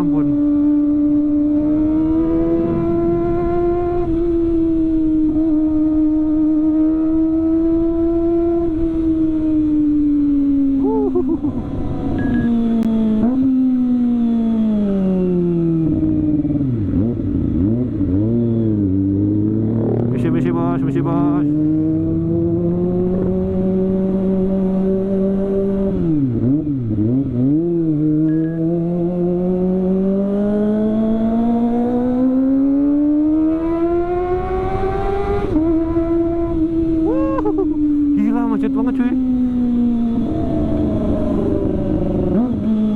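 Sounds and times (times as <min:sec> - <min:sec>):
motorcycle engine revs: 0:00.0 - 0:10.8, 0:12.0 - 0:42.9.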